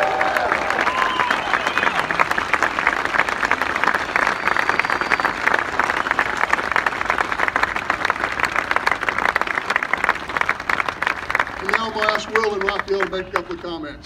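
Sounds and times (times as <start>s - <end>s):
crowd applauding: 0.0s - 13.8s.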